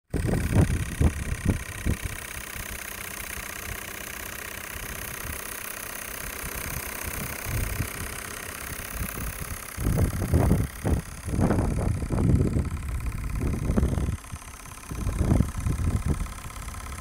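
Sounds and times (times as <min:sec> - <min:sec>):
model steam engine beating: 0:00.1 - 0:17.0.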